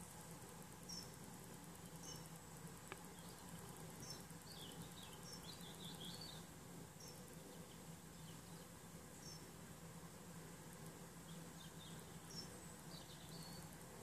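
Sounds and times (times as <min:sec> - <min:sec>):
faint birds chirping: 0:00.0 - 0:14.0
low steady hum: 0:00.0 - 0:14.0.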